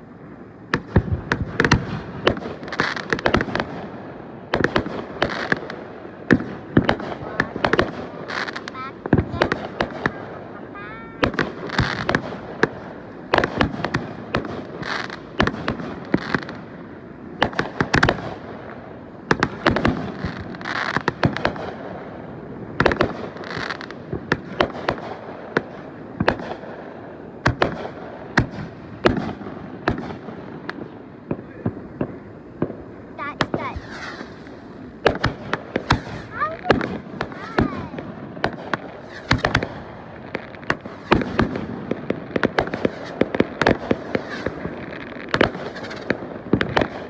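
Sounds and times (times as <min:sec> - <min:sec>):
fireworks banging: 0:00.0 - 0:47.0
fireworks crackling: 0:00.0 - 0:47.0.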